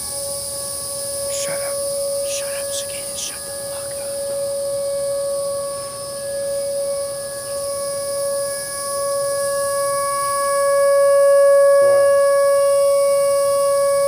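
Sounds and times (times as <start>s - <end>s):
electronic siren steady tone: 0.0s - 14.0s.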